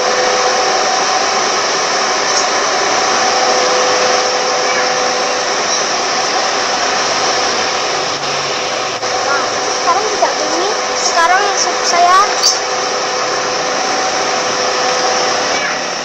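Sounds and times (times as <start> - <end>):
car blower fan whooshing: 0.0 - 16.0.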